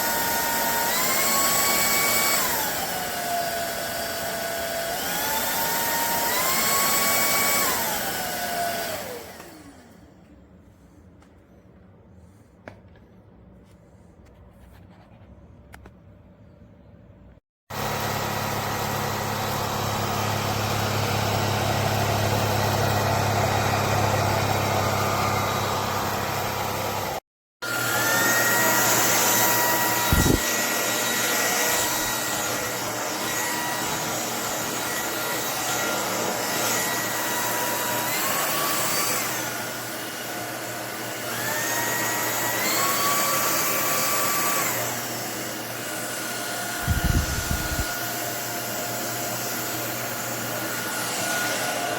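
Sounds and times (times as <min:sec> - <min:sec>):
stick vacuum motor whining: 0:00.0 - 0:10.4, 0:17.7 - 0:51.9.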